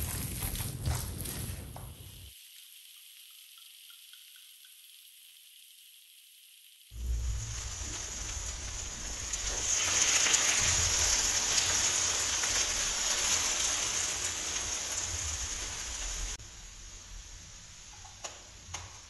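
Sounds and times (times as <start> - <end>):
tomatoes sizzling in frying pan: 1.7 - 19.0.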